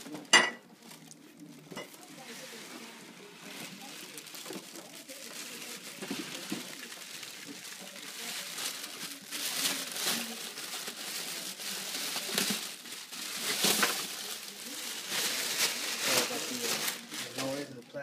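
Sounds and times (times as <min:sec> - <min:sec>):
plastic packaging crinkling: 0:00.0 - 0:17.9.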